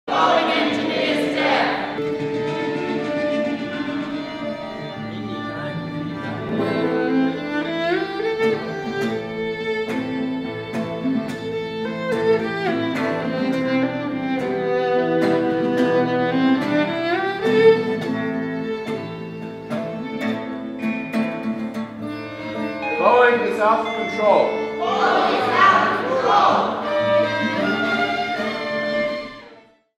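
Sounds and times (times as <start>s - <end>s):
violin sliding notes: 0.1s - 21.2s, 22.0s - 29.6s
plucked guitar notes: 0.1s - 29.6s.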